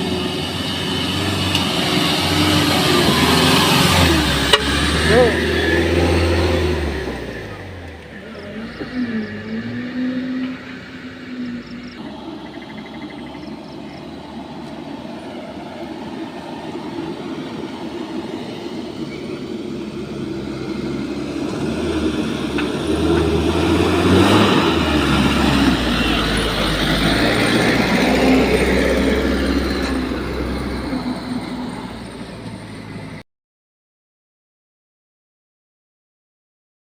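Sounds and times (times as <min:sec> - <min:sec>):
heavy vehicle engine droning: 0:00.0 - 0:33.2.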